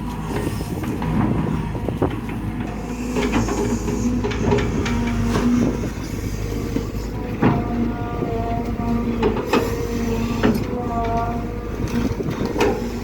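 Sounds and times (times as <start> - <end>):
excavator diesel engine running: 0.0 - 13.0
hydraulics whining: 0.0 - 13.0.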